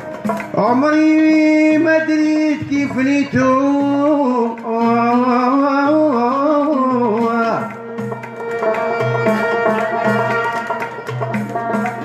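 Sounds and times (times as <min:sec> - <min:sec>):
banjo and plucked strings: 0:00.0 - 0:12.0.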